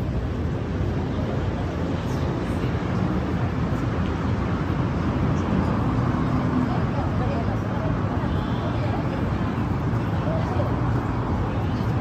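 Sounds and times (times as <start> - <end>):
low rumble of passing traffic: 0.0 - 12.0.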